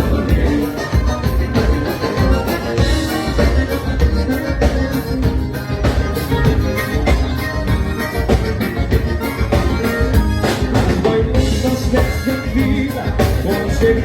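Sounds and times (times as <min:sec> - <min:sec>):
accordion: 0:00.0 - 0:14.0
drum kit dance beat: 0:00.0 - 0:14.0
electric bass: 0:00.0 - 0:14.0.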